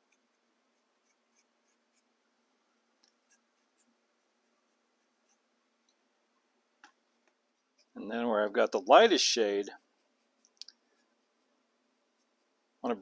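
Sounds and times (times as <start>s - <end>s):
paintbrush scratching foam: 0.0s - 2.3s, 3.0s - 5.6s, 6.8s - 13.0s.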